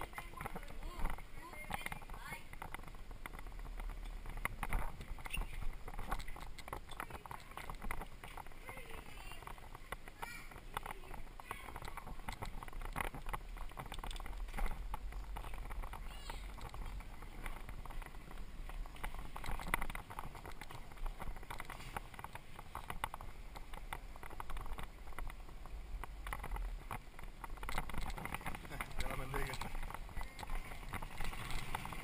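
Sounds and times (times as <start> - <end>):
bike clicks and rattles: 0.0 - 32.0
wind rumble on microphone: 0.0 - 32.0.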